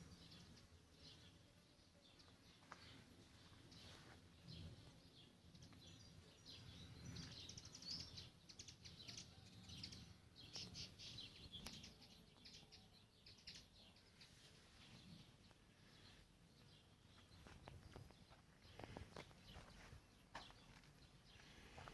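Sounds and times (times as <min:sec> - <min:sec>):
small bird chirping: 0:00.0 - 0:21.9.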